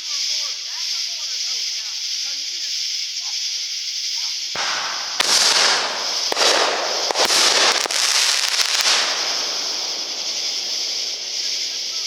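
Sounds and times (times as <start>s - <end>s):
firework hissing and crackling: 0.0s - 12.0s.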